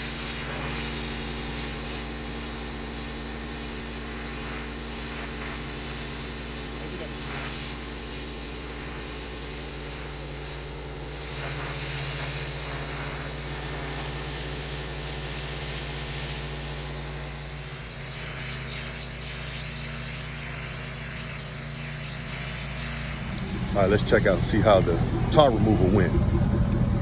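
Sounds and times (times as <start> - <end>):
high-pressure water spray hiss: 0.0 - 24.9
pressure washer engine running: 0.0 - 27.0.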